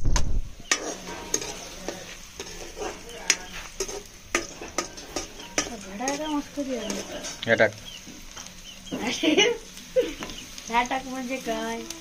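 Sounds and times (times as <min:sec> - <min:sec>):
onions sizzling in oil: 0:00.0 - 0:12.0
steel spoon scraping a pan: 0:00.6 - 0:12.0.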